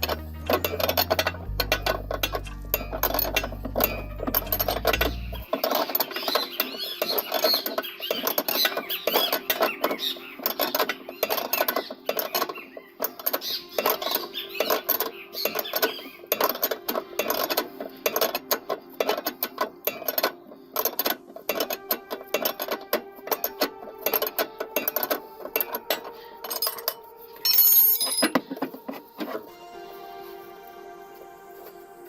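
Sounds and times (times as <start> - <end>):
wrench clicking on a nut: 0.0 - 28.8.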